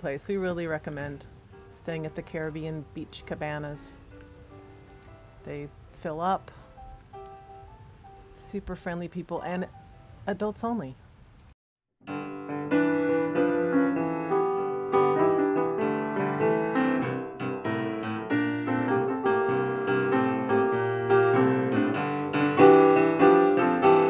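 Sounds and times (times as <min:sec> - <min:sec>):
piano music: 0:00.0 - 0:10.5, 0:12.0 - 0:24.0.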